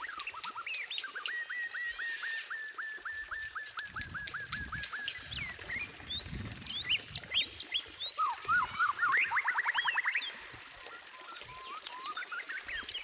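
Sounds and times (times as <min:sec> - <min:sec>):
shama bird singing: 0:00.0 - 0:13.0.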